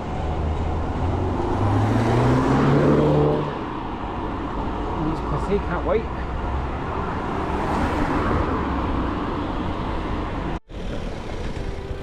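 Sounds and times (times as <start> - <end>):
road traffic rush: 0.0 - 12.0.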